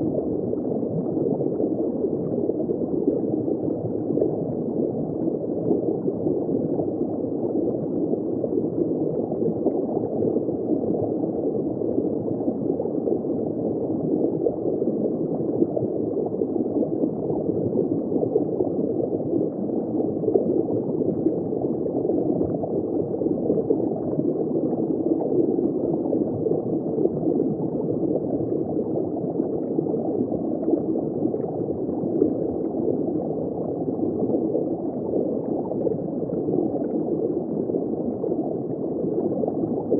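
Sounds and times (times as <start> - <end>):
muffled underwater bubbling: 0.0 - 39.9.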